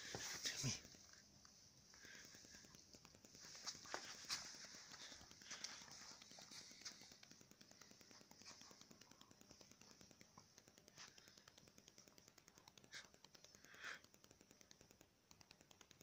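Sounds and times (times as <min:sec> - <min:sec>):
faint steady hiss: 0:00.0 - 0:16.0
light clicks and taps: 0:00.0 - 0:16.0.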